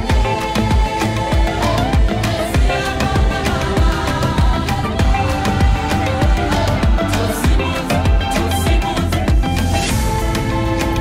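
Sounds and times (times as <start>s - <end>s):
steady drum beat: 0.0s - 11.0s
sustained melodic notes: 0.1s - 9.2s.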